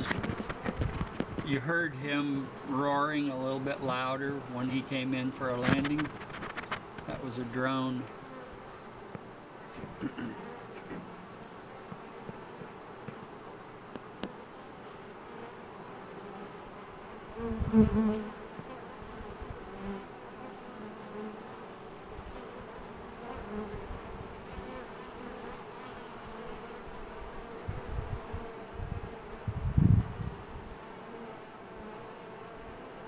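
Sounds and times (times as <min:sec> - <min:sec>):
bee flying close past: 0:00.0 - 0:01.6, 0:04.7 - 0:33.0
honey bees buzzing: 0:00.0 - 0:33.0.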